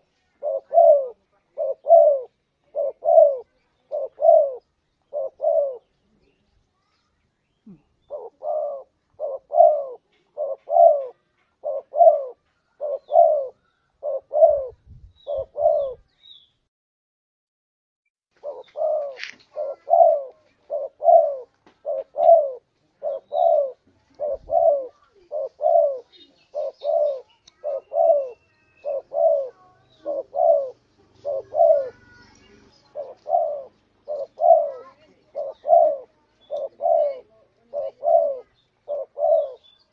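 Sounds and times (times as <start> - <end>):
dove cooing: 0.0 - 6.3, 7.7 - 16.1, 18.4 - 39.9.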